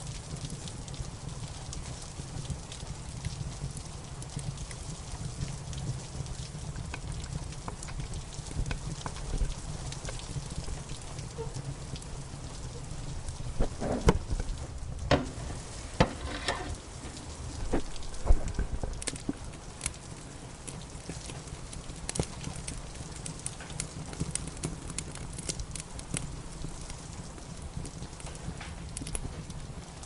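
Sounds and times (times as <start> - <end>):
steady rain: 0.0 - 30.0
wood fire crackling: 0.0 - 30.0.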